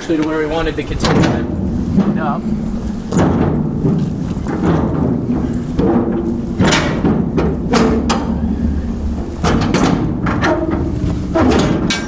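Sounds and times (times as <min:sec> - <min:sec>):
metal door clanks and knocks: 0:00.9 - 0:08.4, 0:09.2 - 0:12.0.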